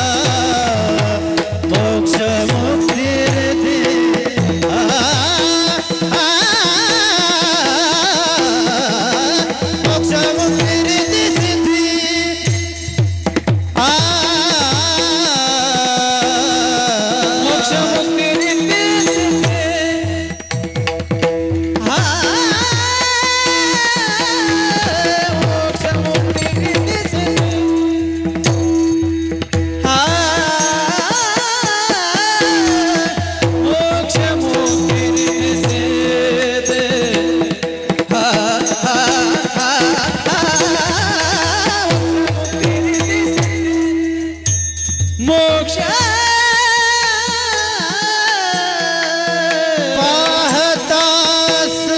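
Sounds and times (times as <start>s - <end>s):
hand drum rhythm: 0.0s - 46.9s.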